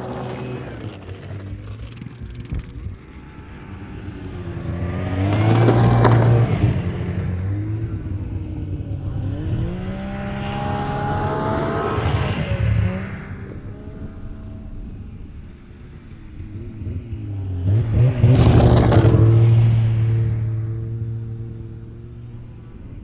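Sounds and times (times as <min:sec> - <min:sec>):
second snowmobile revving: 0:00.0 - 0:22.0
snowmobile engine accelerating: 0:00.0 - 0:22.9.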